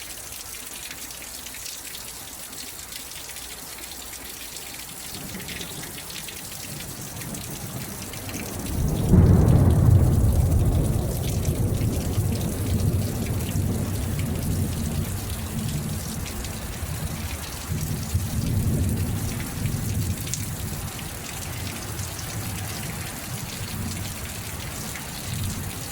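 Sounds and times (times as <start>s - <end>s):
rain pattering on a surface: 0.0s - 25.9s.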